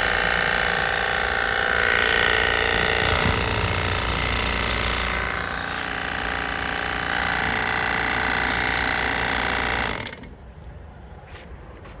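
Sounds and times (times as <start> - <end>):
electric sprayer pump running: 0.0 - 10.2.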